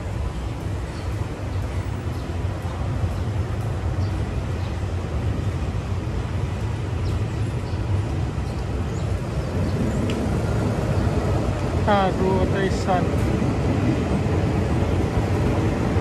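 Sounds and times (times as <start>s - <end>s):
passenger train rumbling: 0.0s - 16.0s.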